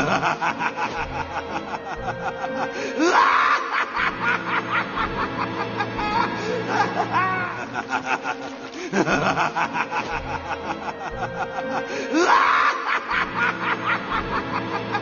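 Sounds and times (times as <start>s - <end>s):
background music: 0.0s - 15.0s
snickering laughter: 0.0s - 15.0s.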